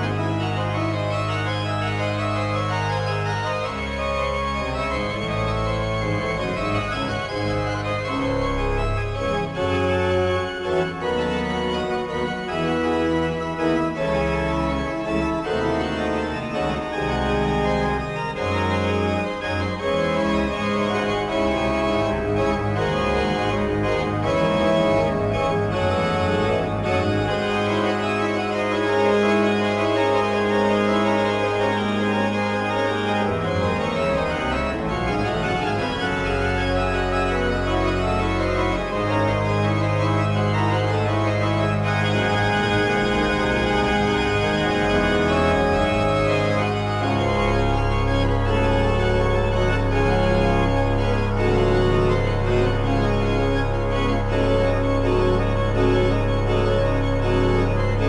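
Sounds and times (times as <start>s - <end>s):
organ chords over deep bass: 0.0s - 58.0s.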